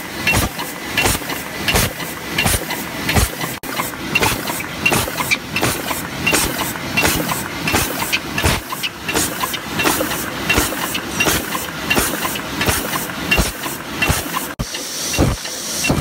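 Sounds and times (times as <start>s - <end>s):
steady machine running noise: 0.0s - 16.0s
rhythmic metallic clatter: 0.2s - 16.0s
light machine clicks: 0.3s - 16.0s.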